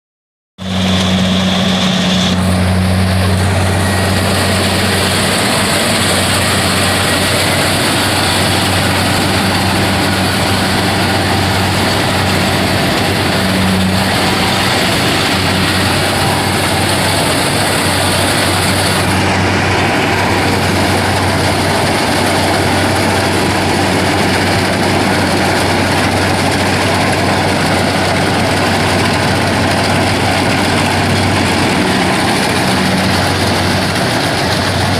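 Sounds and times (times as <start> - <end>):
engine running with clatter: 0.6 - 34.9.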